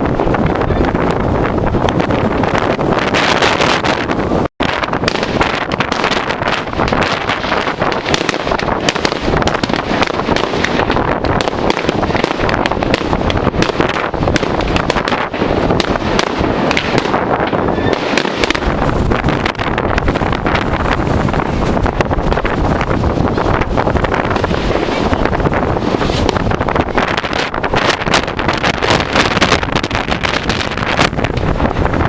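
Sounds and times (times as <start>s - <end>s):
fireworks bangs and crackles: 0.0s - 32.0s
wind buffeting microphone: 0.0s - 32.0s.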